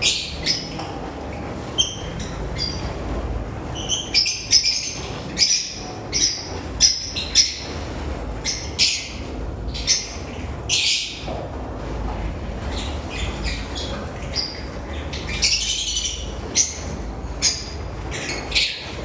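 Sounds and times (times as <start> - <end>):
lovebirds chirping and squawking: 0.0 - 11.9, 12.6 - 19.0.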